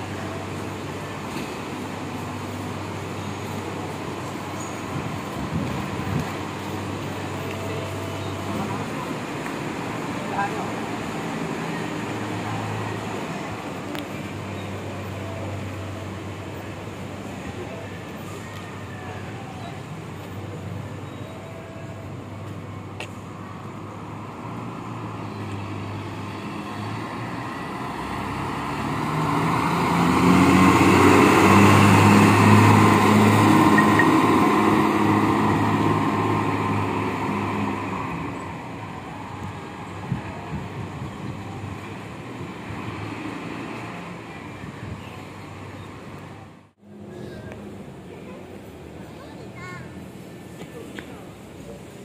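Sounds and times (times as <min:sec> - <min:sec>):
diesel coach passing: 0:00.0 - 0:52.0
steady engine hum: 0:00.0 - 0:52.0.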